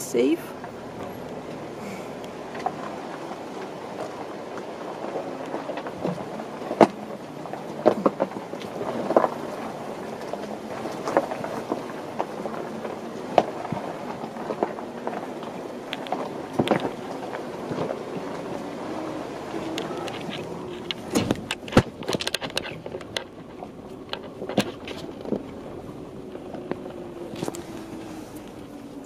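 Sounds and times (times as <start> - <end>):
vehicle rumble: 0.0 - 29.0
tyres knocking over rocks: 1.3 - 18.7, 19.4 - 28.1.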